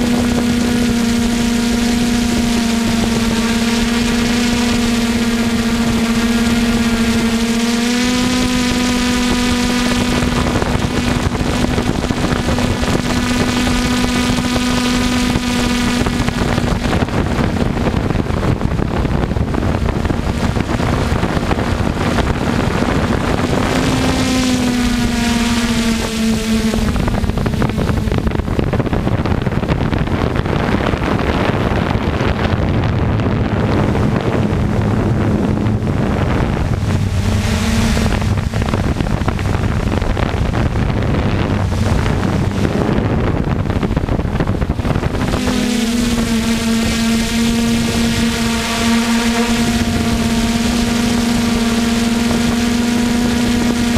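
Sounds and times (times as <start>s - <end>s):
quadcopter motors humming: 0.0s - 53.9s
wind on microphone: 0.0s - 53.9s.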